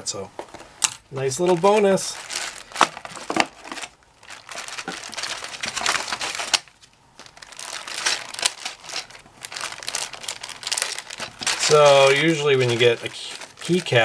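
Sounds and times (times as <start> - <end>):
bag of keycaps crinkling: 1.2 - 14.0.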